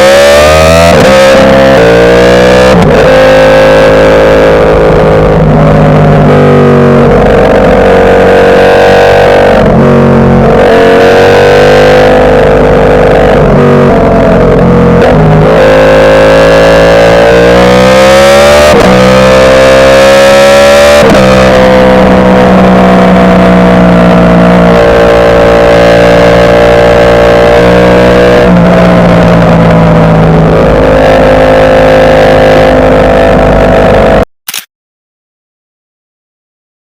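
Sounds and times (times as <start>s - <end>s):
motorcycle engine accelerating: 0.0s - 34.7s.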